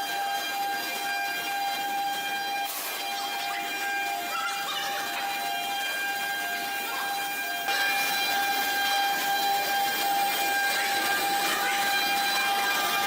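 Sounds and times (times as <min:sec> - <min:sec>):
plasma cutter whining: 0:00.0 - 0:13.0.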